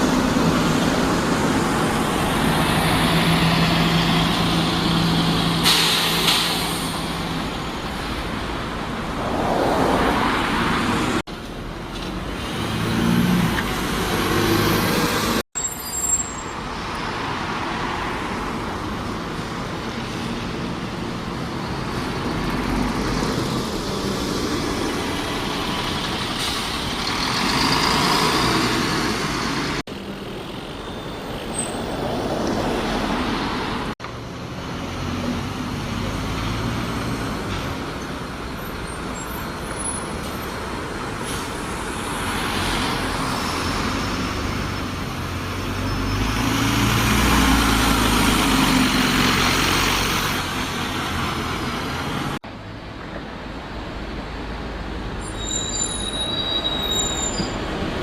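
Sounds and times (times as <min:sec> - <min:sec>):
heavy diesel vehicles passing: 0:00.0 - 0:15.4, 0:16.5 - 0:58.0.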